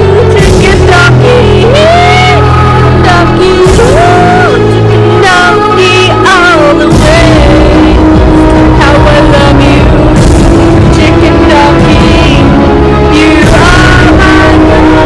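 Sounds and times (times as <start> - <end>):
loud music with bass and chords: 0.0 - 15.0
person singing: 0.0 - 15.0.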